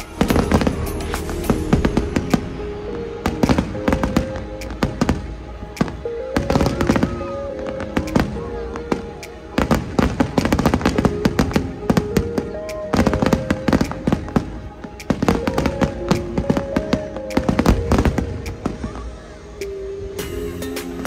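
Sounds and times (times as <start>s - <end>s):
fireworks bangs and crackles: 0.0s - 19.2s
music with held tones: 0.0s - 21.0s.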